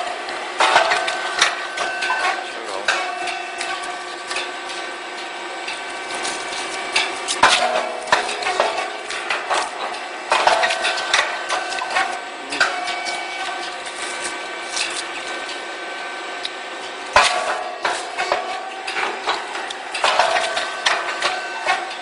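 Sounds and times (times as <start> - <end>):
machine clatter and whine: 0.0 - 22.0.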